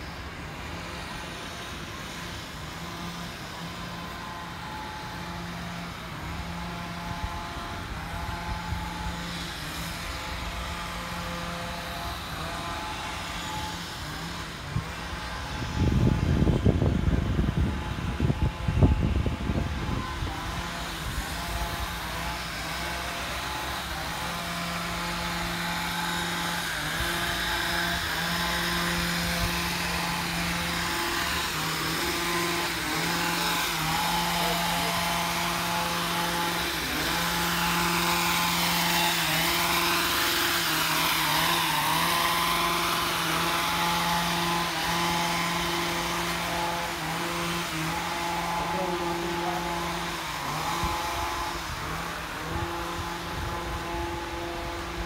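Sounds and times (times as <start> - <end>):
small motor humming: 0.0 - 55.0.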